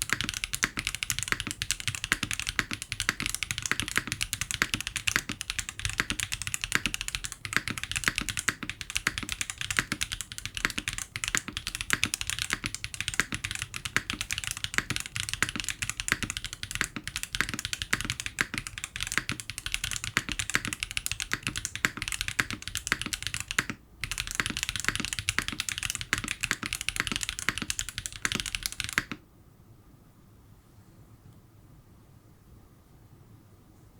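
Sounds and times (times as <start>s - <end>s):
fast mechanical keyboard typing: 0.0s - 29.2s.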